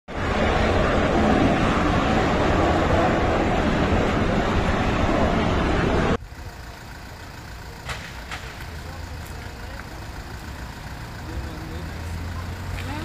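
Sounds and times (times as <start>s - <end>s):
gas fire roaring: 0.1s - 13.0s
vehicles idling: 0.2s - 13.0s.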